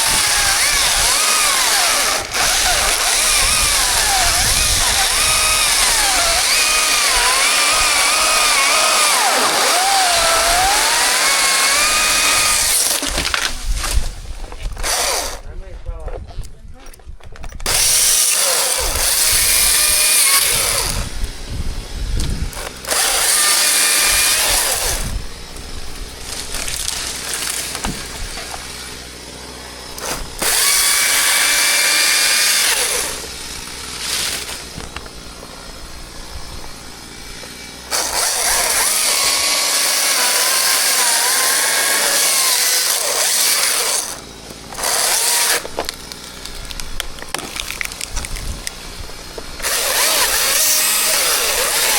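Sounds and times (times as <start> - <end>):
chainsaw idling: 0.0 - 13.7, 14.7 - 15.4, 17.6 - 51.9
chainsaw revving cutting wood: 0.0 - 15.4, 17.6 - 51.9.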